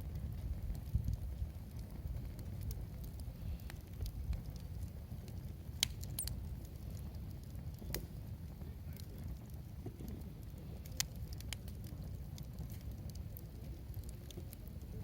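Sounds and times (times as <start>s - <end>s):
campfire crackling: 0.0s - 15.0s
fire sharp pops: 0.0s - 15.0s.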